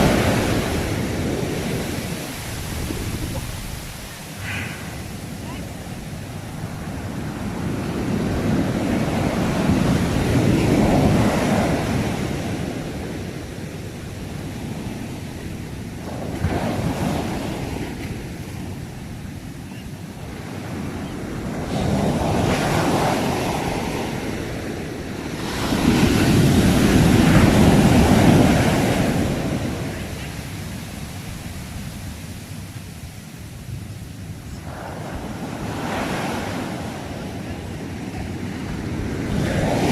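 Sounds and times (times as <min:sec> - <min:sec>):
sea waves breaking ashore: 0:00.0 - 0:39.9.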